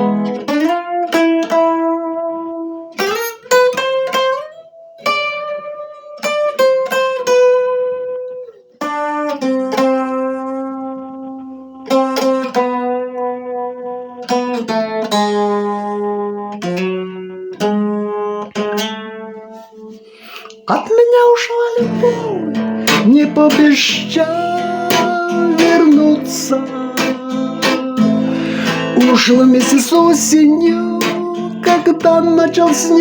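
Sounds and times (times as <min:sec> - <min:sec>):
plucked guitar-like strings melody: 0:00.0 - 0:33.0.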